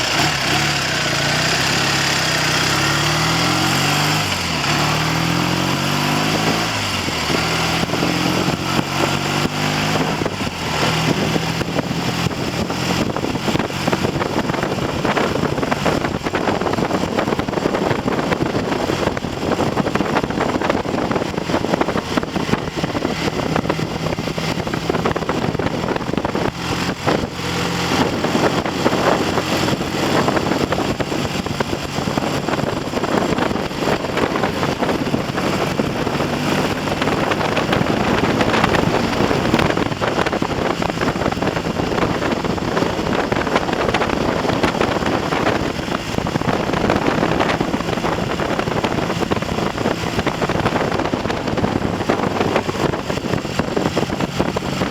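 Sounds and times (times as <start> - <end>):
motorcycle engine revving: 0.0 - 54.9
wind buffeting microphone: 0.0 - 54.9.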